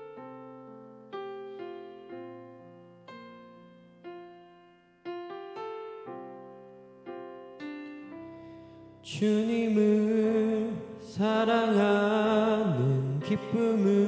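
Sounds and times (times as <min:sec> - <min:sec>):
piano playing gentle chords: 0:00.0 - 0:14.0.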